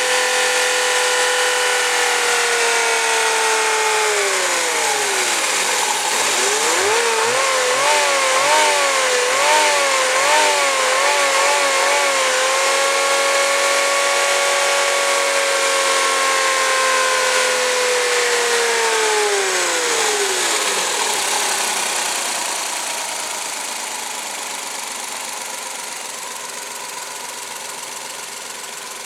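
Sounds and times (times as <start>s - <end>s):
engine revving: 0.0s - 25.5s.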